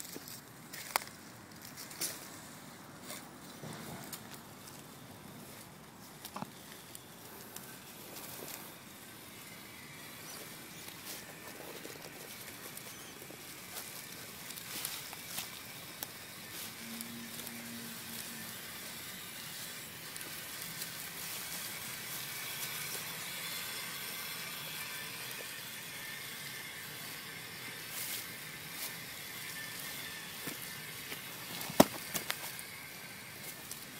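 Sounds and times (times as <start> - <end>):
crackles and clicks: 0.0 - 2.4, 3.0 - 33.9
faint high motor whine: 0.0 - 33.9
tyres hissing over dirt: 2.1 - 33.9.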